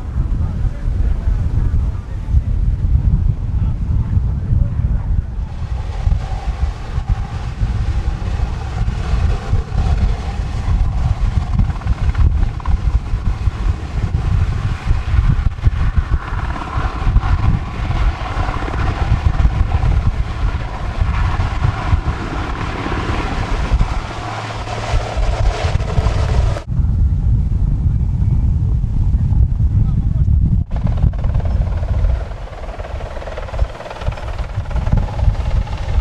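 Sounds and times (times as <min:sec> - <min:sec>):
engine drone: 0:00.0 - 0:27.6, 0:30.6 - 0:36.0
wind buffeting microphone: 0:00.0 - 0:36.0.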